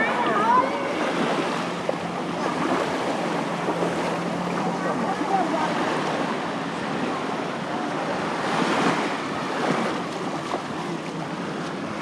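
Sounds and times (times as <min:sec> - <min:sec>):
waves washing onto beach: 0:00.0 - 0:12.0.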